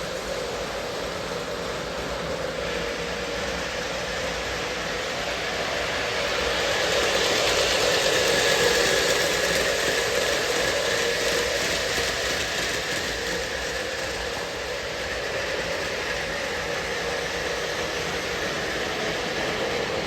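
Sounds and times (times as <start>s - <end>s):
model train rumbling on track: 0.0s - 20.0s.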